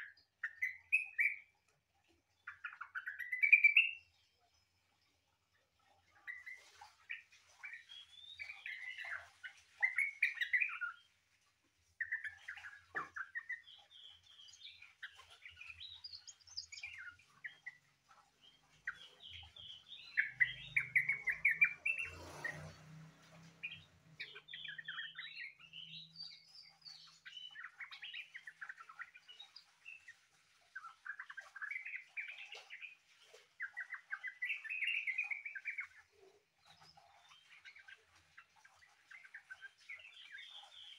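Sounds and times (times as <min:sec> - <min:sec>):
bird warbling song: 0:00.0 - 0:05.2, 0:05.9 - 0:11.2, 0:11.9 - 0:40.9.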